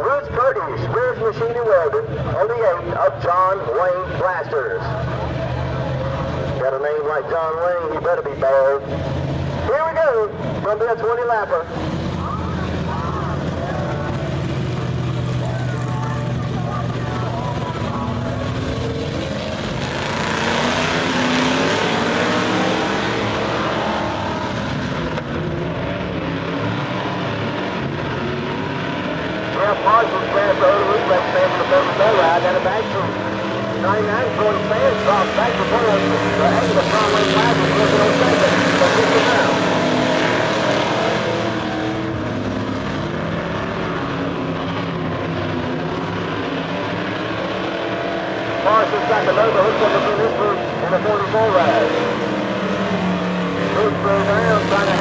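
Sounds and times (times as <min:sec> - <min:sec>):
race car engines at full throttle: 0:00.0 - 0:55.0.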